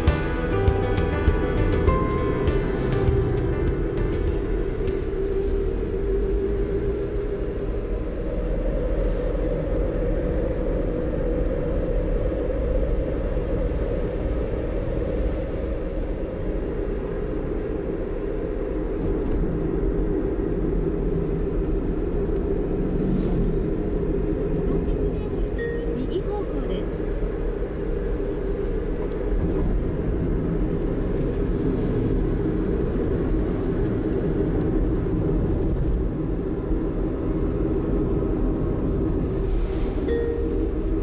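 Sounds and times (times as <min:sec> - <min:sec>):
car engine: 0:00.0 - 0:41.0
tyre road noise on asphalt: 0:00.0 - 0:41.0.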